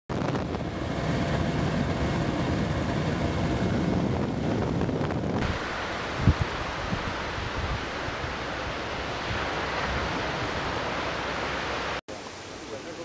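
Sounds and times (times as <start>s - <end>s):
wind buffeting microphone: 0.1s - 11.5s
surf: 0.1s - 13.0s.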